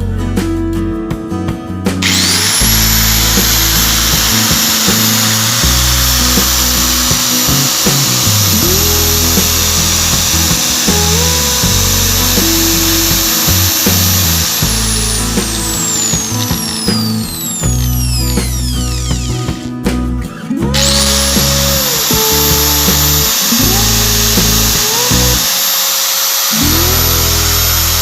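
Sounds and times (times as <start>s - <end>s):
background music with bass: 0.0s - 28.0s
angle grinder whining: 2.0s - 28.0s.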